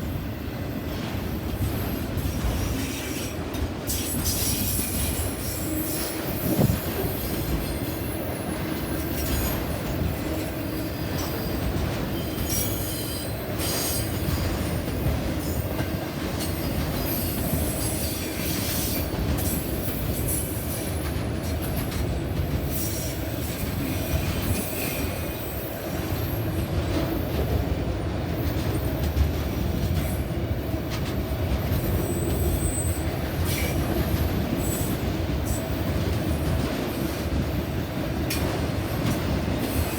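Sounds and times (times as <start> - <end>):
train clanks: 0.0 - 39.9
train wheels rumbling: 0.0 - 39.9.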